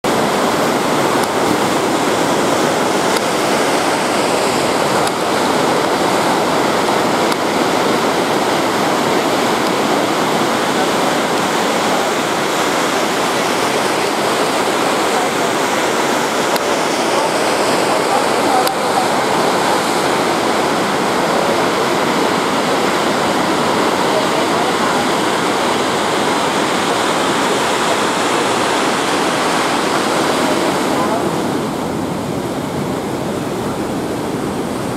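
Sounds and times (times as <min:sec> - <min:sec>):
ocean surf breaking: 0:00.0 - 0:34.9.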